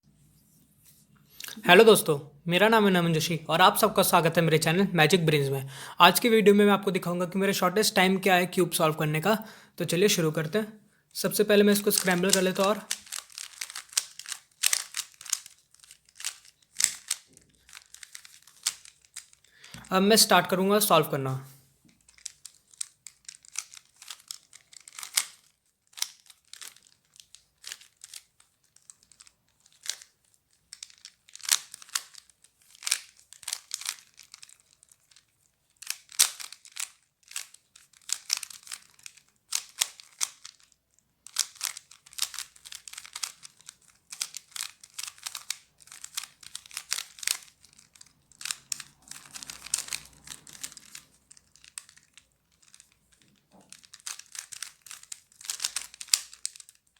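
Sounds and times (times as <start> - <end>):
puzzle cube clicking and rattling: 1.3 - 10.6, 11.2 - 56.9.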